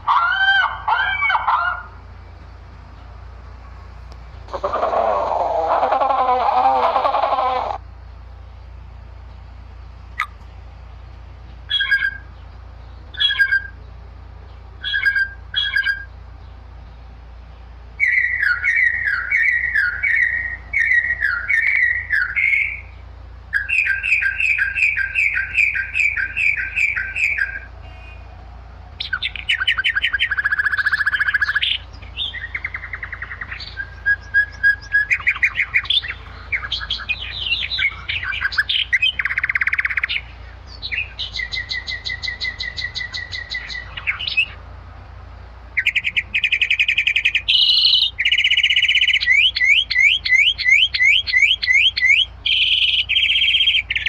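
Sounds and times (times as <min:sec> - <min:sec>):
birds calling and singing: 0:00.0 - 0:54.0
steady low hum: 0:00.0 - 0:54.0.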